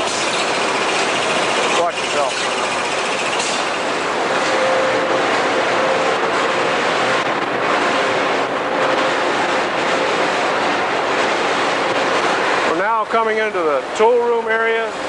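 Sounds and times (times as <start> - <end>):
factory machinery roar: 0.0 - 15.0.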